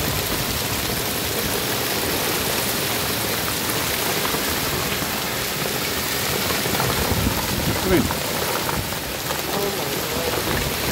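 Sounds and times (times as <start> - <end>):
heavy hail pelting ground: 0.0 - 10.9.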